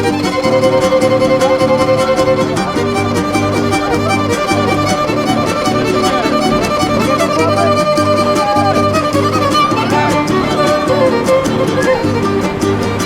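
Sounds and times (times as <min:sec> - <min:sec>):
violin tune over a beat: 0:00.0 - 0:13.0.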